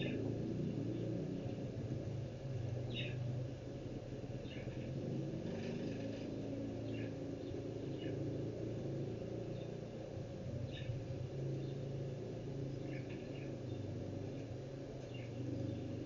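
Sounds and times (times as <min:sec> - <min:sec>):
low motor-like hum: 0:00.0 - 0:16.0.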